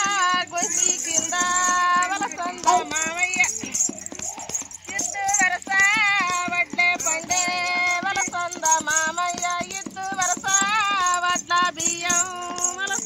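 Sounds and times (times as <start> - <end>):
woman singing folk song: 0.0 - 3.9, 4.8 - 13.0
sharp percussion clicks: 0.0 - 13.0.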